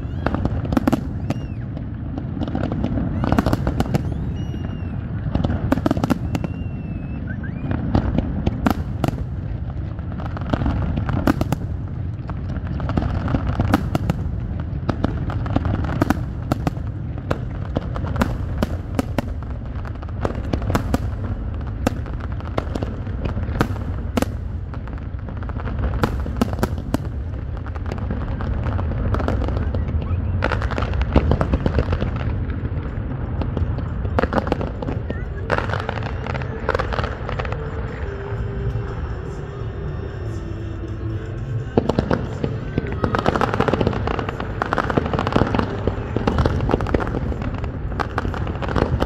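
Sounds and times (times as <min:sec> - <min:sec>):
low rumble: 0:00.0 - 0:49.0.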